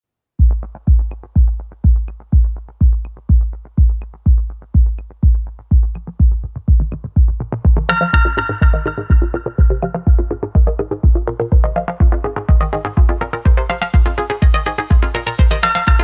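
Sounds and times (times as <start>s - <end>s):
kick drum beat: 0.4s - 16.0s
synthesizer chords: 0.4s - 16.0s.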